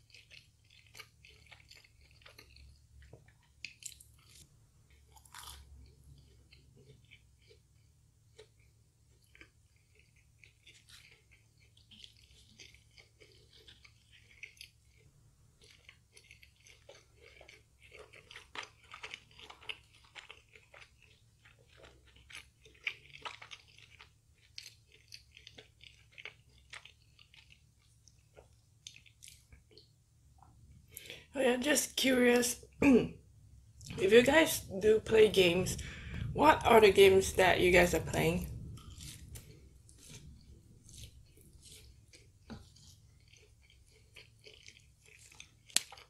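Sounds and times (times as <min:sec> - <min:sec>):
person chewing crispy chicken: 0:00.0 - 0:31.3, 0:38.5 - 0:46.0.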